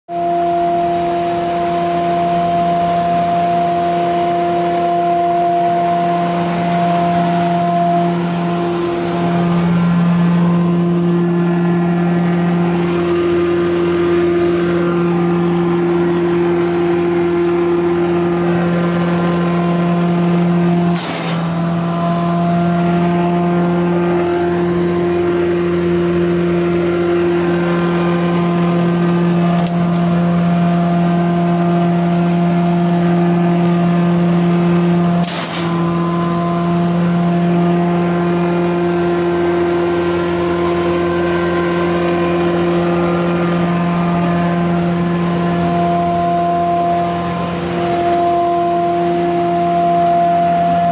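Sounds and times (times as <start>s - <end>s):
wood chipper engine droning: 0.1s - 50.9s.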